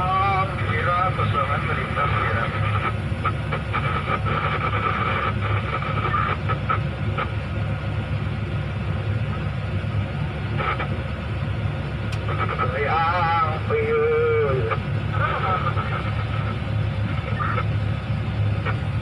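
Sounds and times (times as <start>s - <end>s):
excavator diesel engine running: 0.0s - 19.0s
high whine: 0.0s - 19.0s.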